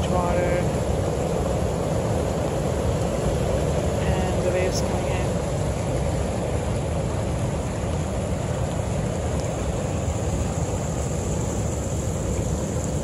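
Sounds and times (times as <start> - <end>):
ocean waves breaking: 0.0 - 13.0
wind on microphone: 0.0 - 13.0.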